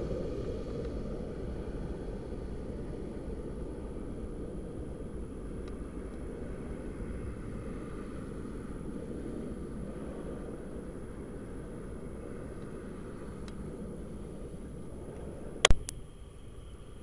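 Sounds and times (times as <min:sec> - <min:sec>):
distant jet airliner rumble: 0:00.0 - 0:17.0.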